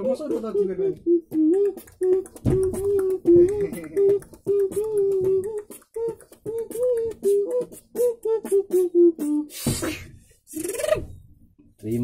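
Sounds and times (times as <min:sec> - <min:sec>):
man beatboxing: 0:00.0 - 0:11.0.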